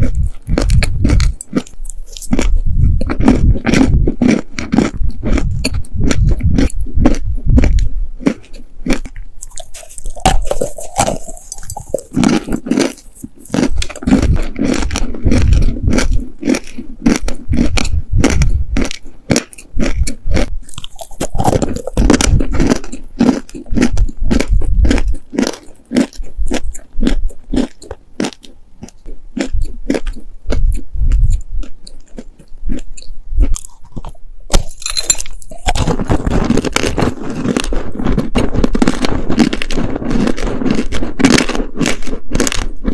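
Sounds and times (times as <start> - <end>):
chewing crunchy cookies: 0.0 - 42.9.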